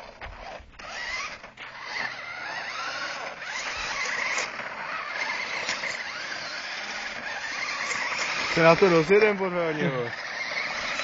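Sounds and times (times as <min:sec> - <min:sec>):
toy car electric motor whining: 0:00.0 - 0:11.0.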